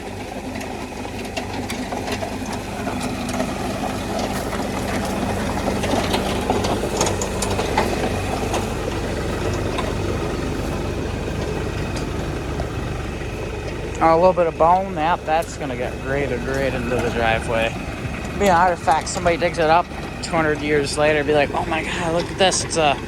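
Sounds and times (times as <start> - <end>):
clicks and rattles: 0.0 - 23.0
tractor diesel engine under load: 0.0 - 23.0.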